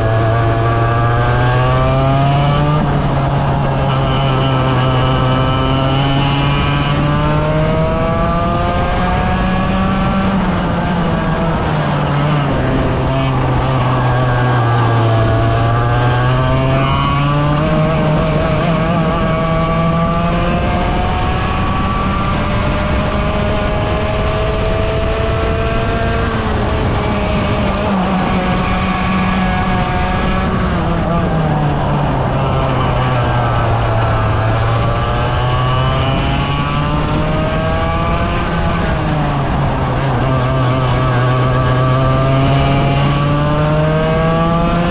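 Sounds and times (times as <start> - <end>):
racing kart engine running hard: 0.0 - 44.9.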